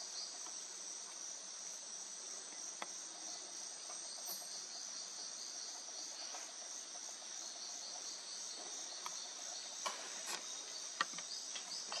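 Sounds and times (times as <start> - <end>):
forest insects chorus: 0.0 - 12.0.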